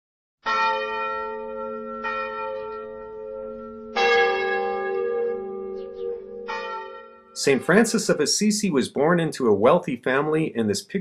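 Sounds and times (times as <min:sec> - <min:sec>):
church bells tolling: 0:00.4 - 0:10.7.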